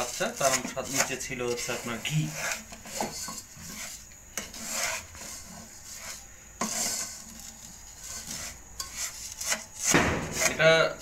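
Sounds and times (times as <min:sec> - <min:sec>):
wooden spatula scraping a pan: 0:00.0 - 0:11.0.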